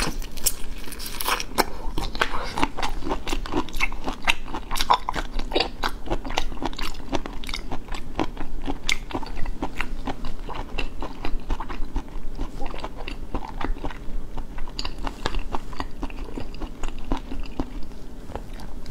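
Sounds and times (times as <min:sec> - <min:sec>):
crunchy chewing: 0:00.0 - 0:18.9.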